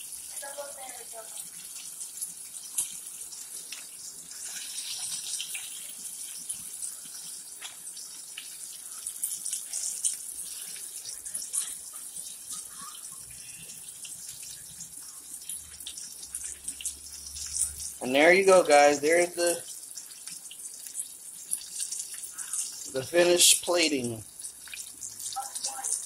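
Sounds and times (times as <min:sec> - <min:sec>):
oil sizzling in a frying pan: 0:00.0 - 0:26.0.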